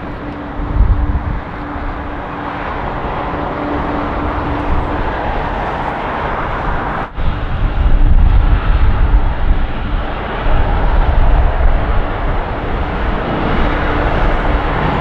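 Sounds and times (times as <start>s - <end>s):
gusty low rumble: 0.0s - 15.0s
jet engines roaring: 0.0s - 15.0s.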